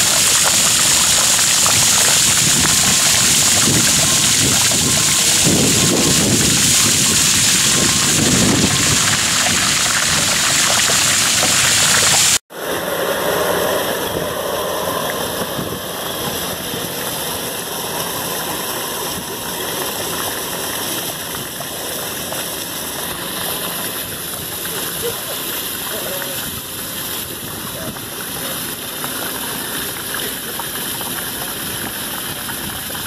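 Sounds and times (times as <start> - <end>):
hose water splashing into pool: 0.0 - 12.7, 13.9 - 33.0.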